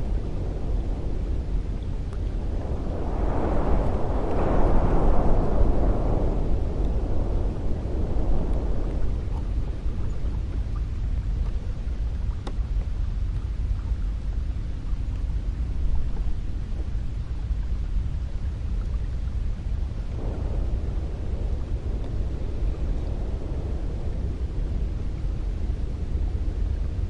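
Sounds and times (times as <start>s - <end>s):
wind blowing: 0.0s - 27.0s.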